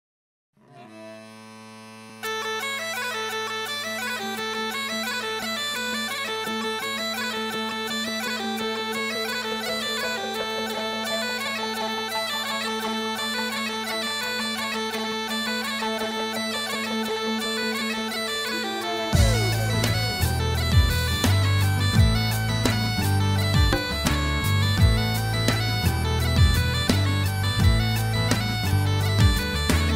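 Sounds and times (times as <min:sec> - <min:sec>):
bagpipe chanter melody: 0:00.6 - 0:29.9
bagpipe drones: 0:00.6 - 0:29.9.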